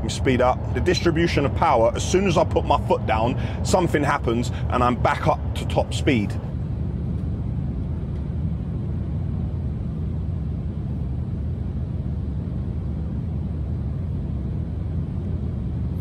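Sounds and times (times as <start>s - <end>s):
truck tyre and wind rumble: 0.0s - 16.0s.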